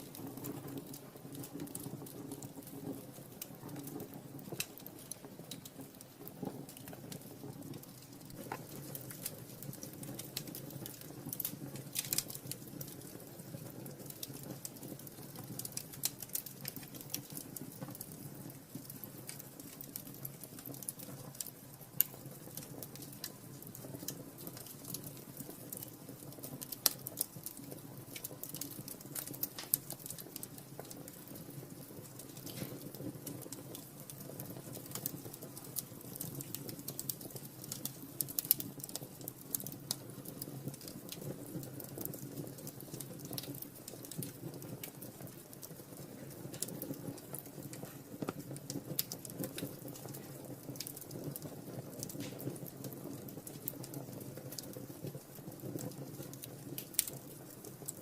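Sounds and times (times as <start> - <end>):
low rush of flame: 0.0 - 58.0
sharp pops of fire: 0.0 - 58.0
wood fire crackling: 0.0 - 58.0.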